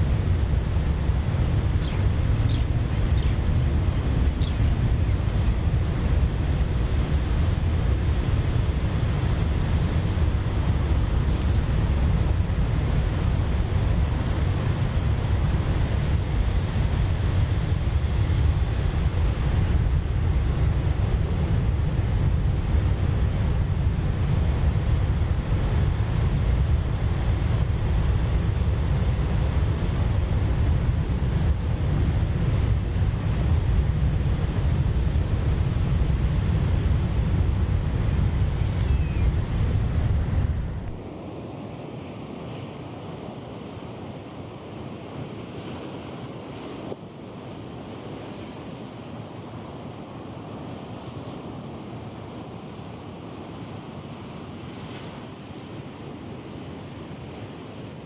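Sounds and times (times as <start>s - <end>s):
ocean waves breaking: 0.0s - 58.0s
wind: 0.0s - 58.0s.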